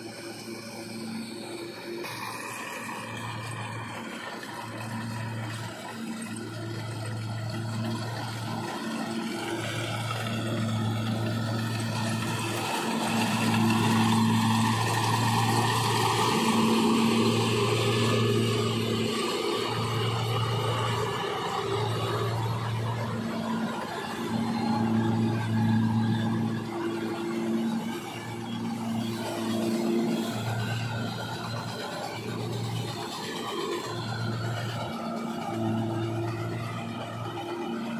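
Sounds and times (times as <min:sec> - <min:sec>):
combine harvester running: 0:00.0 - 0:37.9.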